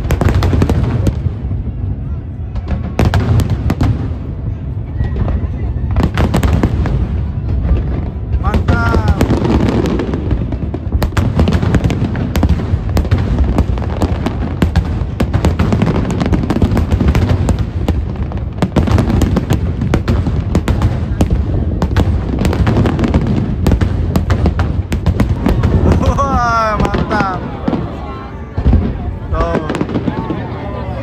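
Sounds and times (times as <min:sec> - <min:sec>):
fireworks bangs and crackles: 0:00.0 - 0:31.0
low rumble: 0:00.0 - 0:31.0.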